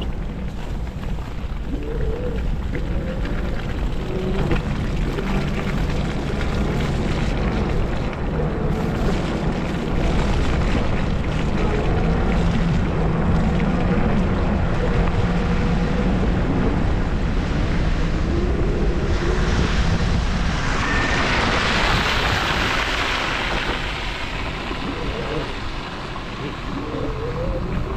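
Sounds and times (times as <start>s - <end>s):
bike road noise in snow: 0.0s - 27.9s
wind buffeting microphone: 0.0s - 27.9s.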